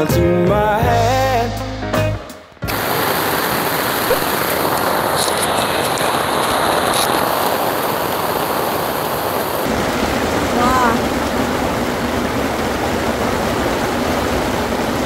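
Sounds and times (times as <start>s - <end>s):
heavy rain: 2.6s - 15.0s
water streaming onto gravel: 2.7s - 15.0s.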